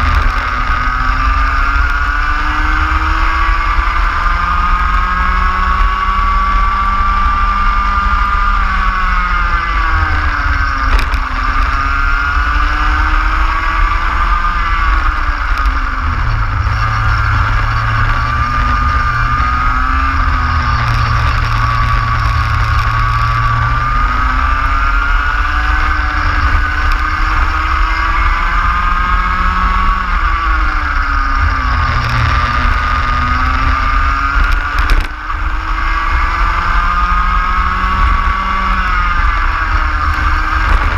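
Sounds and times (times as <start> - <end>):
kart engine revving: 0.0 - 40.9
steady rushing noise: 0.0 - 40.9.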